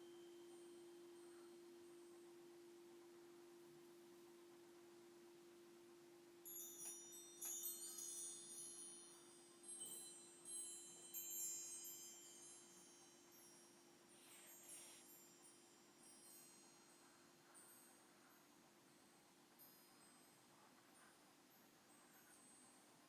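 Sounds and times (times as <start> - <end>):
metal chimes tinkling: 0.0 - 2.2, 6.4 - 23.0
crystal singing bowl tone: 0.0 - 2.8, 6.3 - 23.0.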